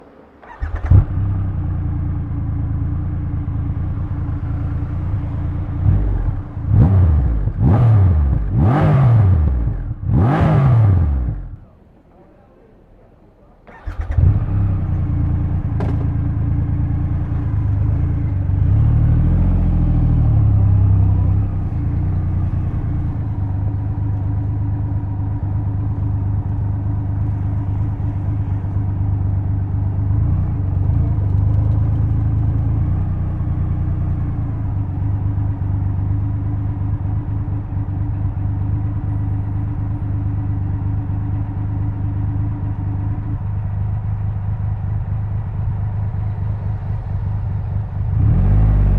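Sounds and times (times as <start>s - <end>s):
motorcycle engine idling: 0.2s - 8.6s, 13.6s - 48.2s.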